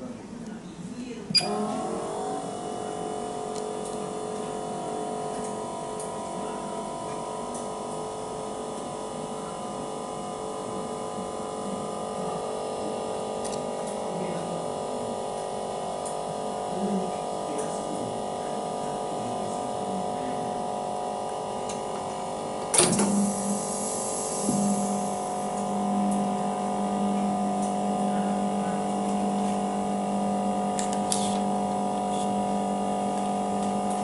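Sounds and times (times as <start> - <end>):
machine humming: 1.4 - 34.0.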